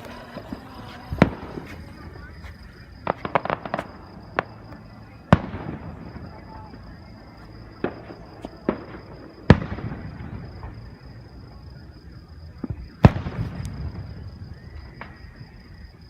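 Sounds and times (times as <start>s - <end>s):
fireworks bangs: 0.0s - 15.6s
fireworks crackling: 0.0s - 15.6s.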